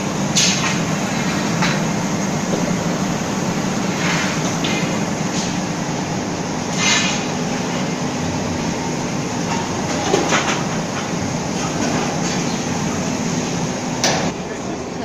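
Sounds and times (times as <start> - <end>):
factory machinery rumbling: 0.0 - 15.0.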